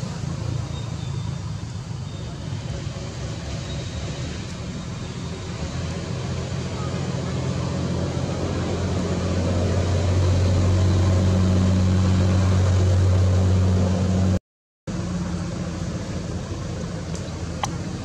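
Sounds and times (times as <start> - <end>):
low engine-like hum: 0.0 - 18.0.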